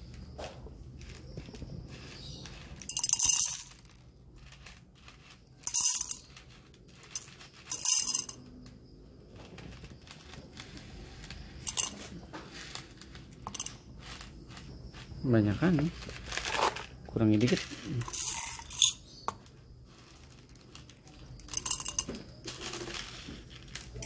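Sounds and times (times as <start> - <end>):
coffee beans rattling into cup: 0.1 - 24.0.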